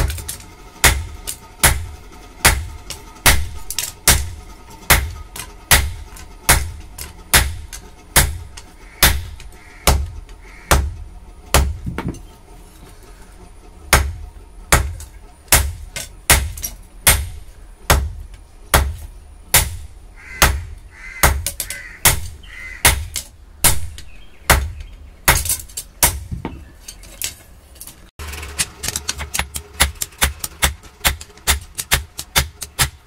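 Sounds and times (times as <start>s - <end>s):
hammer striking metal on anvil: 0.0s - 12.4s, 13.9s - 26.6s, 29.3s - 33.0s.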